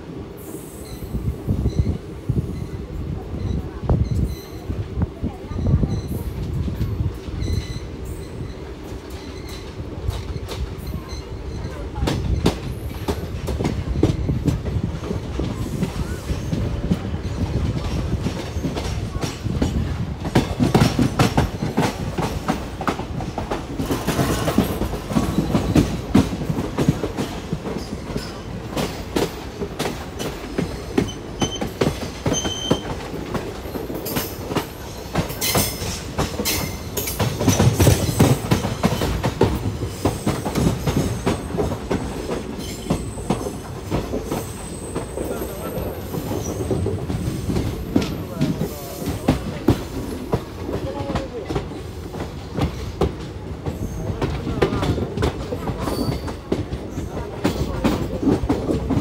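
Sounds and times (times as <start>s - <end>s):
rumble of train wheels on rails: 0.0s - 59.0s
wheels clacking over rail joints: 8.4s - 59.0s.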